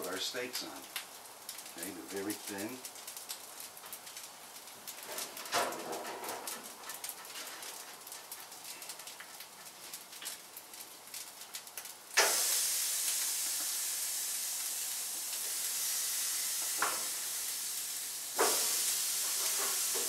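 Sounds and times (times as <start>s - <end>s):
faint crackle: 0.0s - 20.0s
steak sizzling on a grill: 0.0s - 20.0s.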